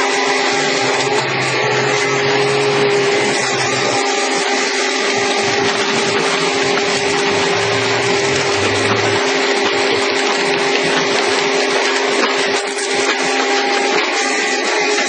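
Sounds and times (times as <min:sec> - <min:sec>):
excavator engine with hydraulic whine: 0:00.0 - 0:12.2.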